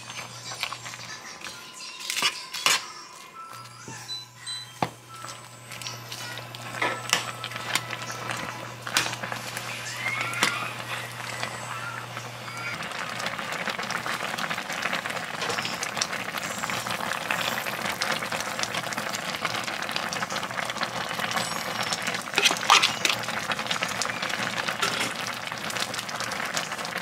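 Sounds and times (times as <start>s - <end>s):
food sizzling in oil: 5.0s - 27.0s.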